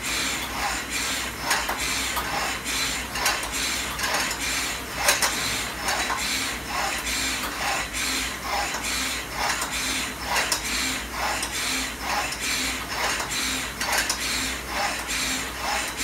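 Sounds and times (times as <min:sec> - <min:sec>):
rowing machine flywheel whirring: 0:00.0 - 0:16.0.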